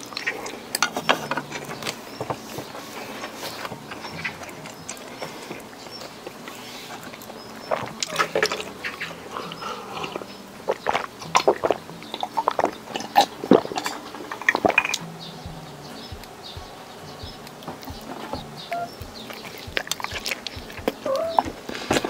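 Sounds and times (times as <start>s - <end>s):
crunchy chewing: 0.0s - 22.0s.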